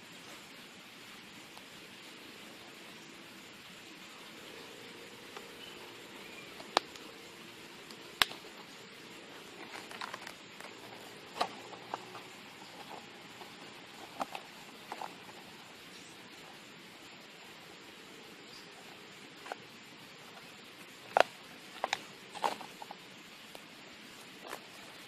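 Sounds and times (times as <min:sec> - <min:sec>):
plastic pot crackling: 0:04.9 - 0:25.0.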